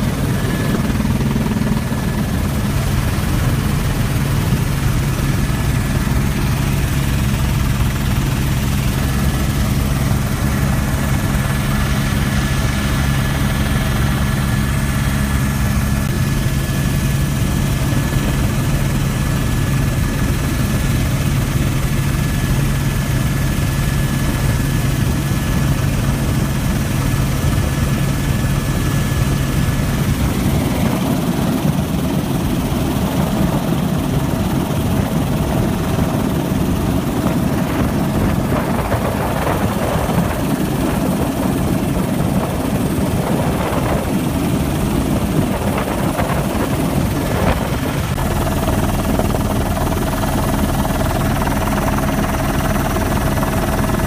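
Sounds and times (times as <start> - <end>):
helicopter rotor and engine drone: 0.0 - 54.0.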